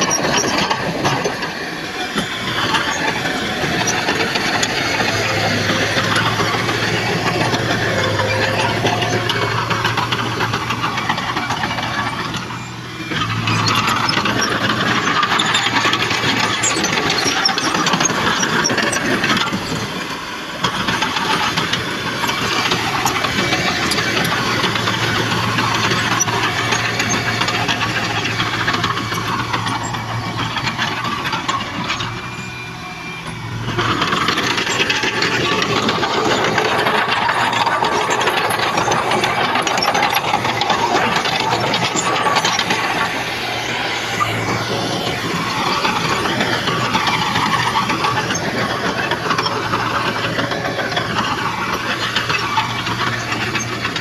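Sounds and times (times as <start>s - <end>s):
heavy diesel machinery working: 0.0s - 54.0s.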